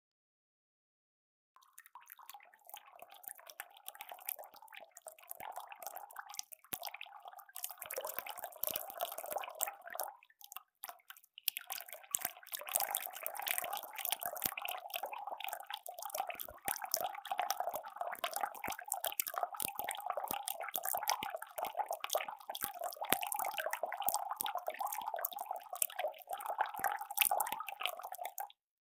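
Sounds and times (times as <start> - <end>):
water running and dripping: 1.6 - 28.4.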